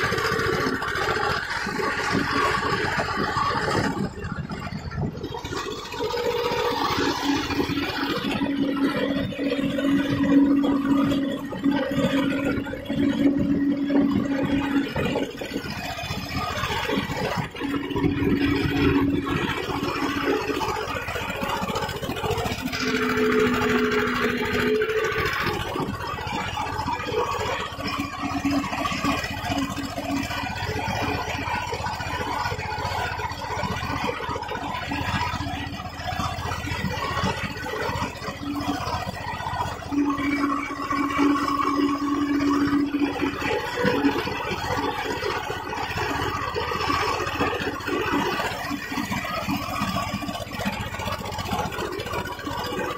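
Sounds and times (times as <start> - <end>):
strong steady hum: 0.0 - 52.9
tractor diesel engine running: 0.0 - 52.9.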